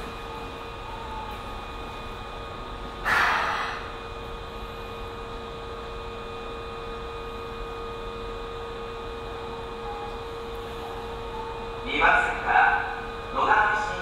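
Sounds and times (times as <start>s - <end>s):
subway train electrical hum: 0.0s - 14.0s.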